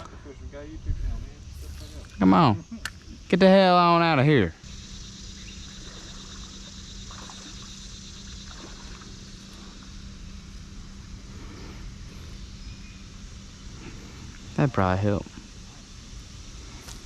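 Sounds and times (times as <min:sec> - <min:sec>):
vehicle engine humming: 0:01.3 - 0:17.0.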